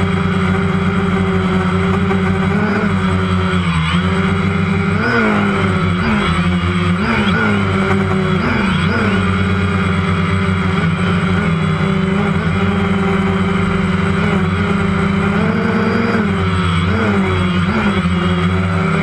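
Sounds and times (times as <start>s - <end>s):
drone propellers whine: 0.0s - 19.0s.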